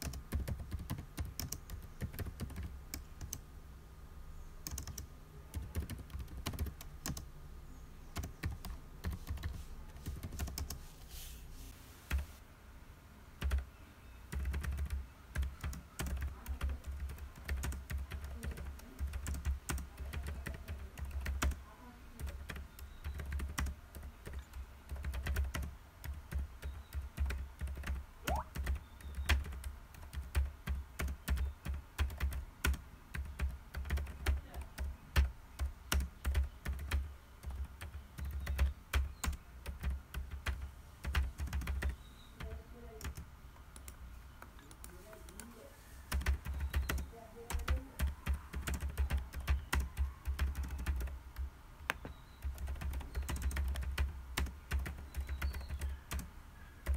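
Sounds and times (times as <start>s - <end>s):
computer keyboard typing: 0.0s - 3.4s, 4.6s - 7.3s, 8.2s - 10.8s, 13.4s - 13.6s, 14.3s - 21.6s, 22.2s - 45.5s, 46.1s - 56.9s.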